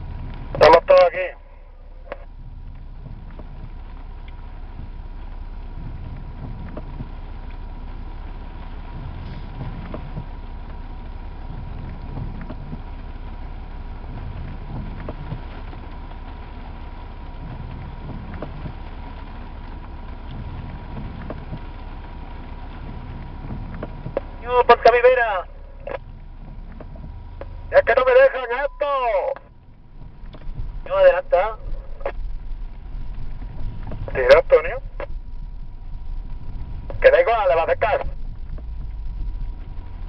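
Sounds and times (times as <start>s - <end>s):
car engine running low: 0.0s - 40.0s
faint steady whine: 0.0s - 40.0s
raindrops ticking on roof: 0.0s - 40.0s.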